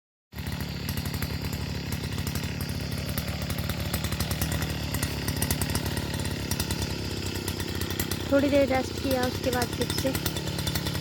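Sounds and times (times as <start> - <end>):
brush cutter engine cutting grass: 0.4 - 11.0.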